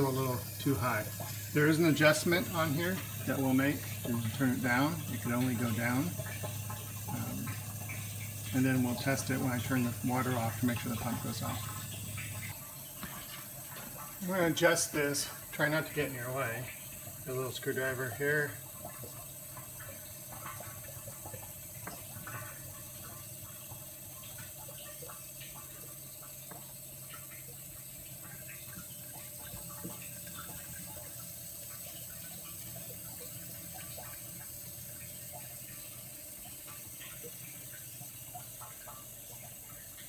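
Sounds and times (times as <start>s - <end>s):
pump humming: 0.0s - 40.0s
water hissing through filter: 0.0s - 40.0s.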